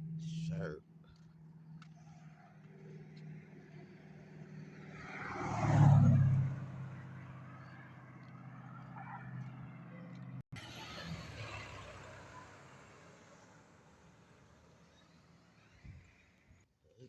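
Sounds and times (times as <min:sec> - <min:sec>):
car driving past: 0:01.2 - 0:16.6.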